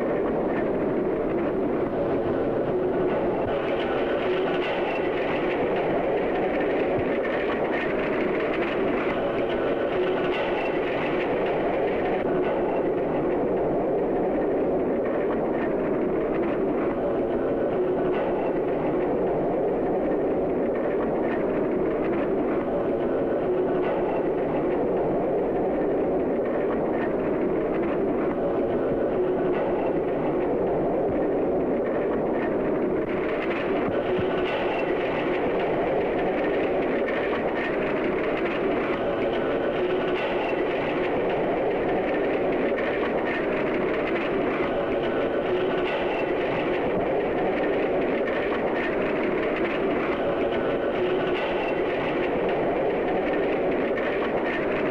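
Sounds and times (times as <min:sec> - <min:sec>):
film soundtrack hiss: 0:00.0 - 0:54.9.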